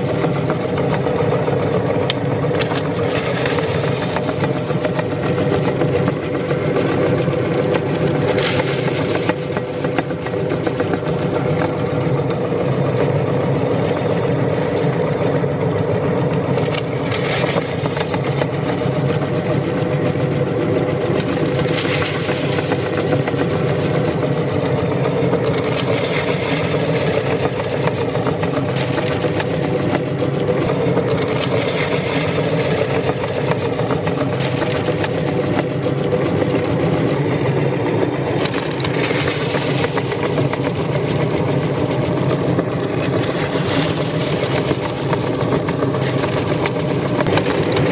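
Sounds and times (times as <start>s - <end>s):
meat grinder motor humming: 0.0s - 47.9s.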